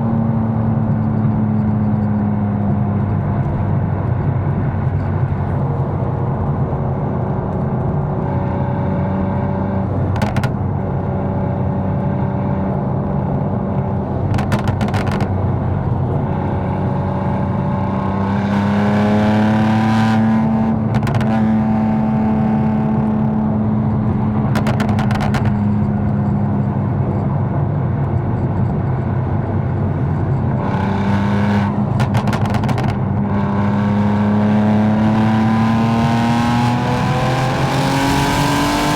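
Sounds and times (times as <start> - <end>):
car engine droning while driving: 0.0 - 38.9.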